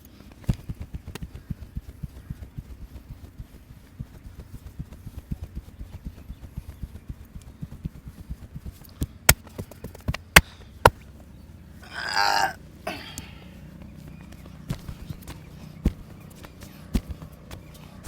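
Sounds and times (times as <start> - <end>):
hands patting and tapping: 0.1 - 11.0, 14.0 - 18.0.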